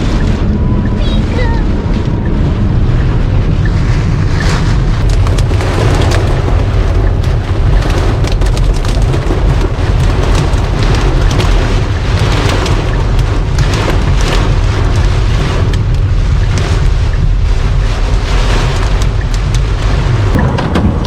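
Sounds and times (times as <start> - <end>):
heavy rain drumming on car roof: 0.0 - 21.0
road and wind rumble: 0.0 - 21.0.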